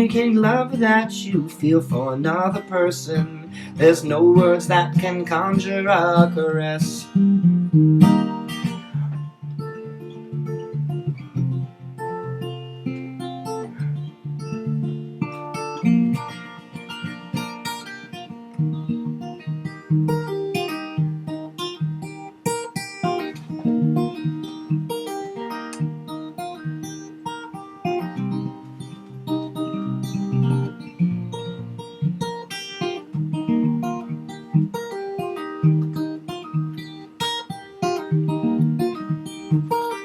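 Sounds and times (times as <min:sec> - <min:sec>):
acoustic guitar: 0:00.0 - 0:40.0.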